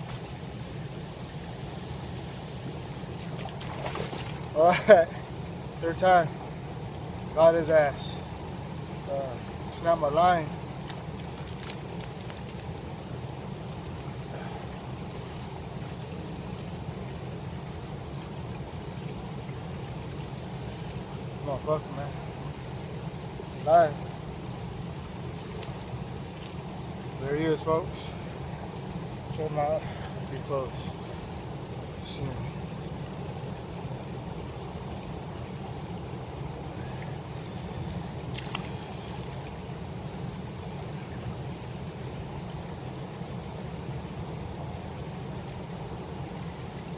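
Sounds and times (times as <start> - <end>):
river water flowing over rocks: 0.0 - 46.9.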